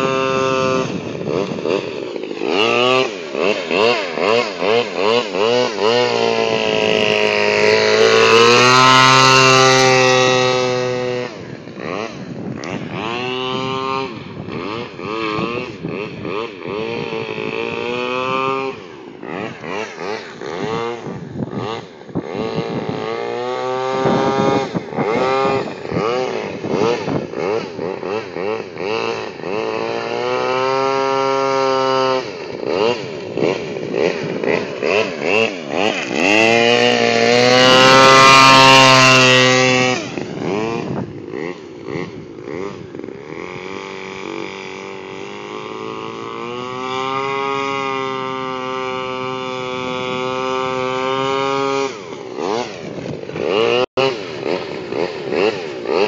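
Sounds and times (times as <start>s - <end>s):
model airboat engine: 0.0s - 56.0s.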